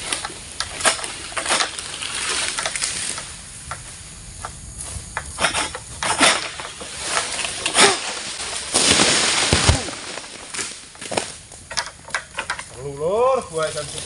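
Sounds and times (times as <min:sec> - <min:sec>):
fronds rustling crash: 0:00.0 - 0:04.0, 0:05.4 - 0:14.0.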